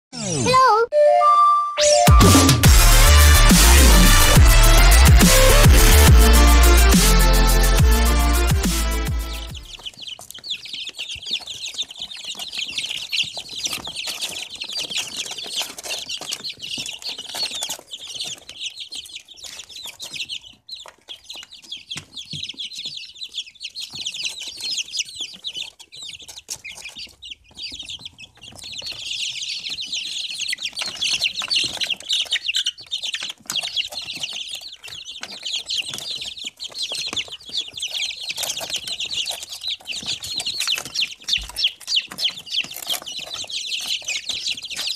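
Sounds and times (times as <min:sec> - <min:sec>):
chicks peeping: 0:01.8 - 0:44.9.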